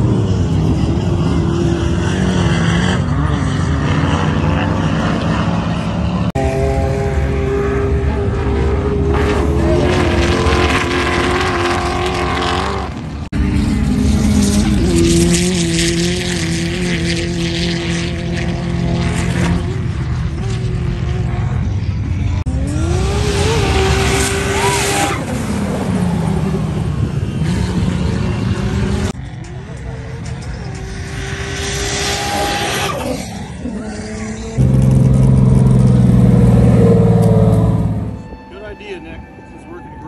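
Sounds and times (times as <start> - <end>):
racing engines revving: 0.0 - 40.0.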